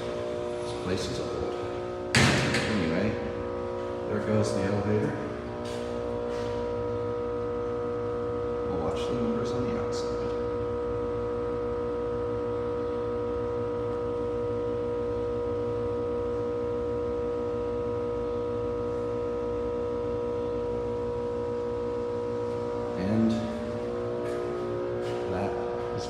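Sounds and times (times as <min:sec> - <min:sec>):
elevator running drone: 0:00.0 - 0:26.0.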